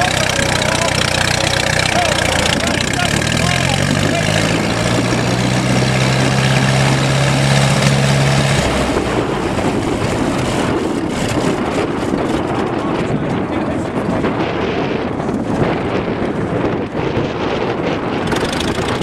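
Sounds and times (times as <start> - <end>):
tractor engine running: 0.0 - 17.1, 18.1 - 19.0
low hum: 0.0 - 17.4
wind buffeting microphone: 0.0 - 19.0.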